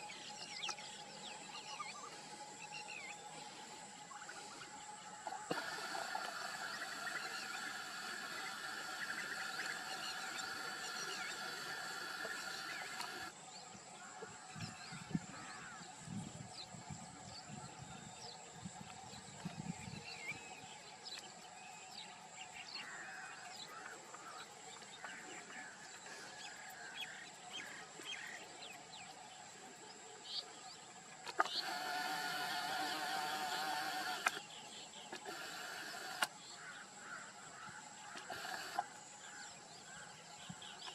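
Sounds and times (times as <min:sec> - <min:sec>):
faint high hum: 0:00.0 - 0:40.9.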